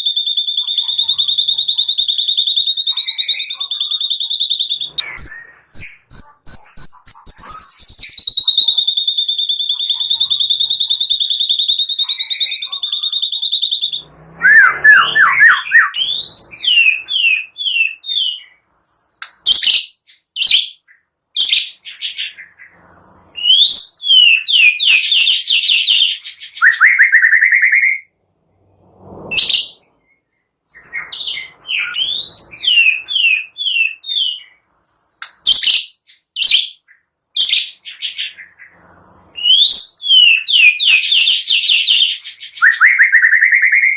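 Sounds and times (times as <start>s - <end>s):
songbird whistling song: 0.0s - 28.1s, 29.3s - 43.9s.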